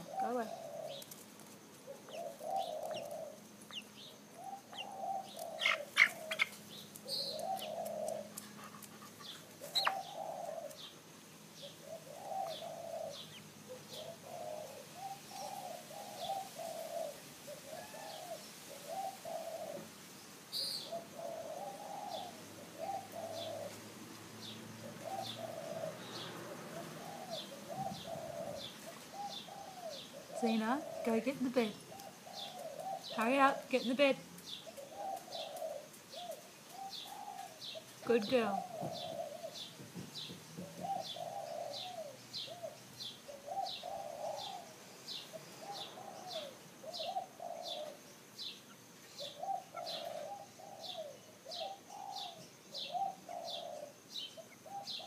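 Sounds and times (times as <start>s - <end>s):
birds cooing softly: 0.0s - 55.0s.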